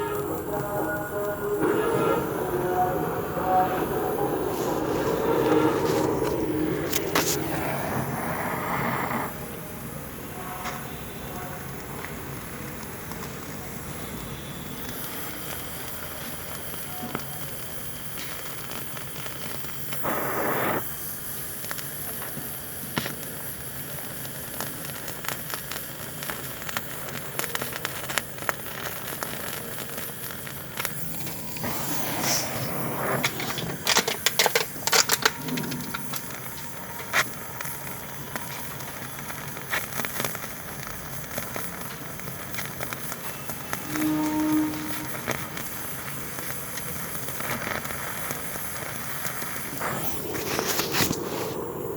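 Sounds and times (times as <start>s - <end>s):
steady hiss: 0.0s - 51.9s
welding arc crackling: 0.0s - 51.9s.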